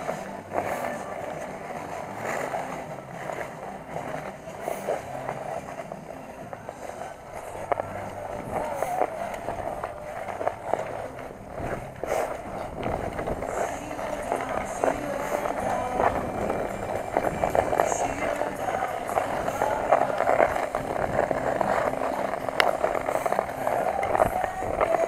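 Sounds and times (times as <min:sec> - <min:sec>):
skate blades scraping ice: 0:00.0 - 0:25.0
small clicks and scuffs: 0:00.0 - 0:25.0.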